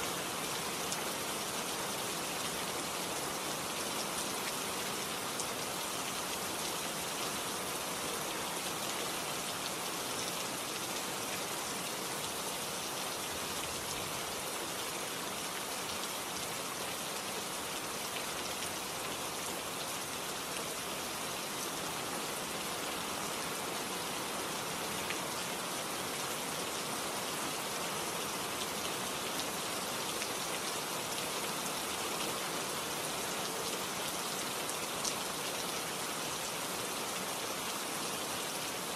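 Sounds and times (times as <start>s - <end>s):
steady rain-like hiss: 0.0s - 38.9s.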